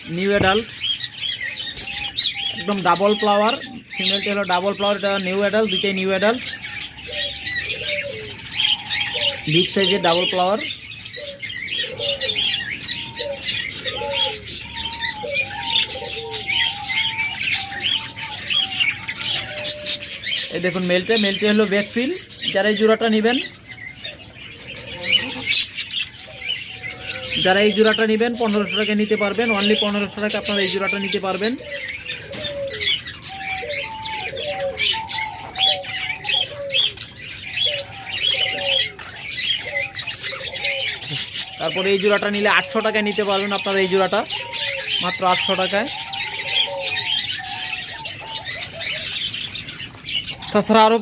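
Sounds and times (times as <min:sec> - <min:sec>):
budgerigars chirping and chattering: 0:00.0 - 0:51.0
doves cooing: 0:00.0 - 0:51.0.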